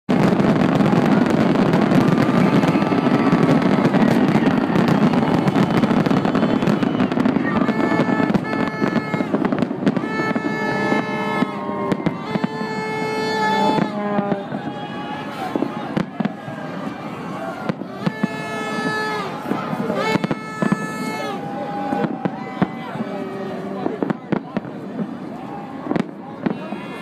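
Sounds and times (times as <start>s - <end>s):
fireworks crackling and popping: 0.1s - 27.0s.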